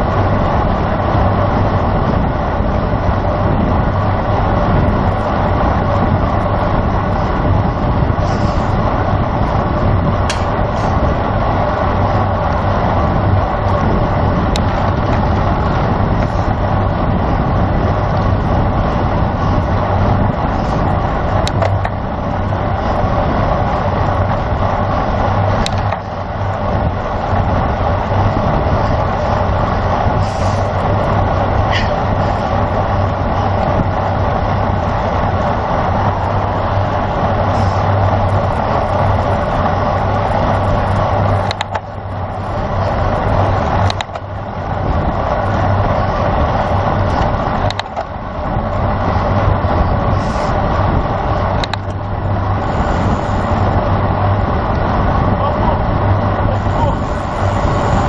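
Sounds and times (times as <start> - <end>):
low hum: 0.0 - 58.0
road noise: 0.0 - 58.0
wind rush: 0.0 - 58.0.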